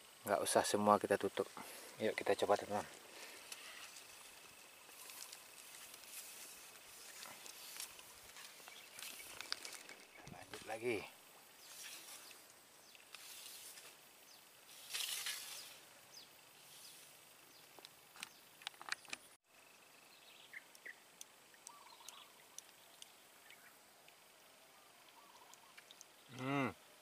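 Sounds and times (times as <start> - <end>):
faint hiss: 0.0 - 27.0
faint chirps: 0.4 - 27.0.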